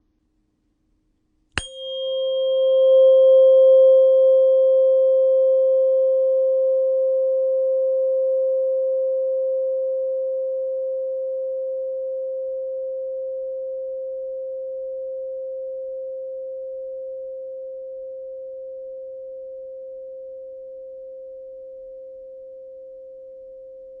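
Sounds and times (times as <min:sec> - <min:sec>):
tuning fork ringing: 0:01.6 - 0:24.0.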